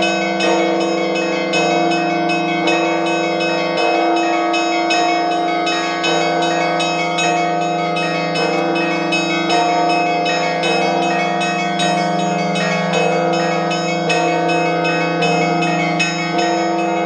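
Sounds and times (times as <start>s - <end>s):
large bells ringing low: 0.0s - 17.0s
small bells struck rapidly: 0.0s - 17.0s.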